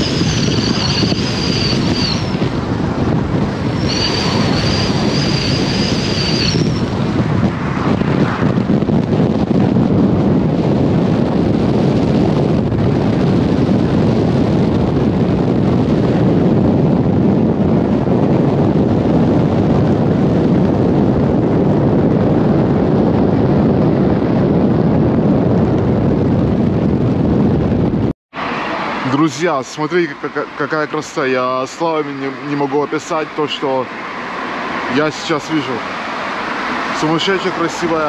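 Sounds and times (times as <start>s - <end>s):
car tyre and road noise: 0.0s - 38.0s
wind rushing over microphone: 0.0s - 38.0s.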